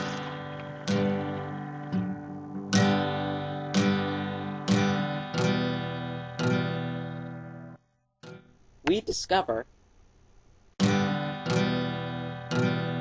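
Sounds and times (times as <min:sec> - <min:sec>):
acoustic guitar strumming chords: 0:00.0 - 0:09.0, 0:10.8 - 0:13.0.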